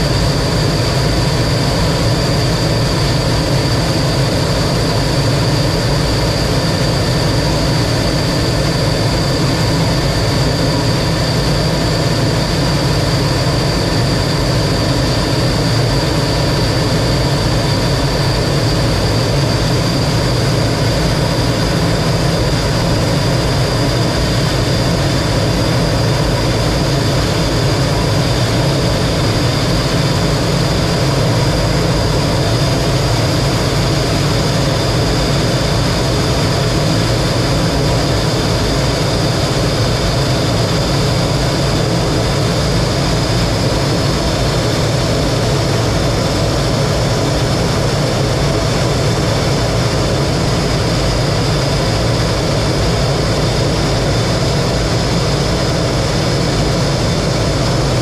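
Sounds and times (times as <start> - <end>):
jet engine running: 0.0 - 58.0.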